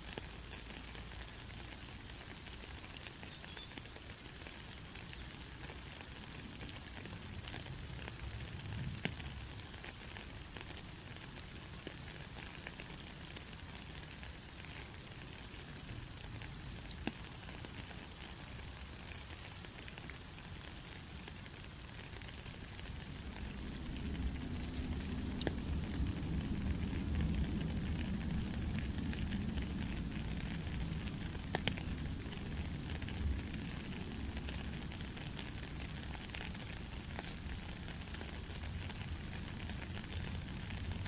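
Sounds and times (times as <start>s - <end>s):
faint crackles: 0.0s - 41.0s
white noise hiss: 0.0s - 41.0s.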